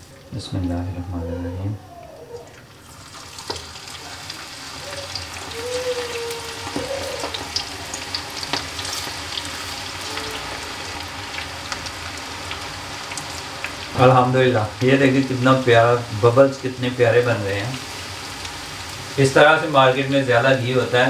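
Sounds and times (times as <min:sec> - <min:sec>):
hot oil sizzling and crackling: 0:02.7 - 0:21.0.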